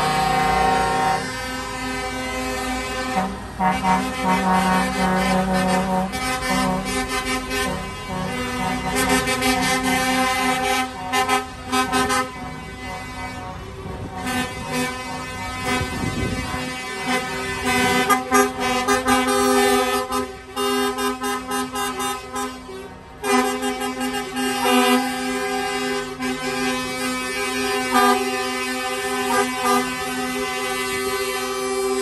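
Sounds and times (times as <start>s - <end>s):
lorry air horns: 0.0s - 32.0s.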